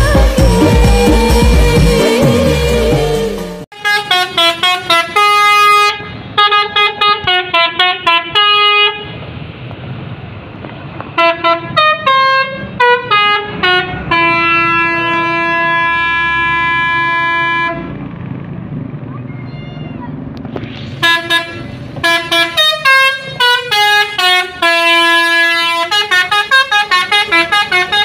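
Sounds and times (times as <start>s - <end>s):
bus horn playing tooting melody: 0.0s - 9.2s, 11.1s - 18.0s, 21.0s - 28.0s.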